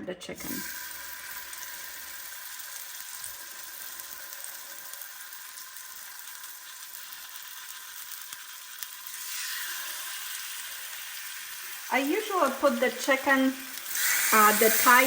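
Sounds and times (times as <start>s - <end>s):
chicken sizzling in a frying pan: 0.4s - 15.0s.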